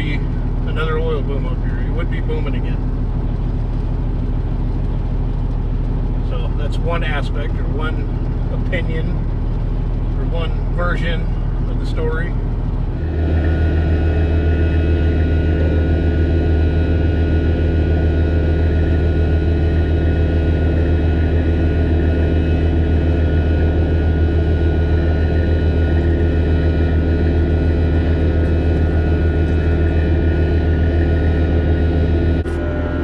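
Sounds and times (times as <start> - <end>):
heavy diesel engine droning: 0.0 - 33.0.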